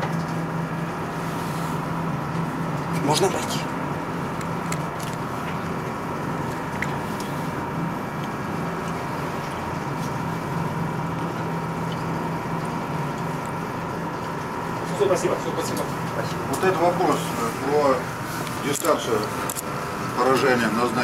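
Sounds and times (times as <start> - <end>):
constant high whine: 0.0 - 21.0
machinery hum: 0.0 - 21.0.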